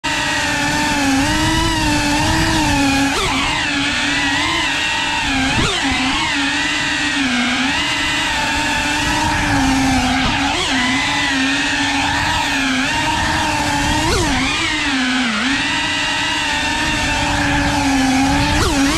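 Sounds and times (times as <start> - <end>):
quadcopter propellers whining: 0.0 - 18.9.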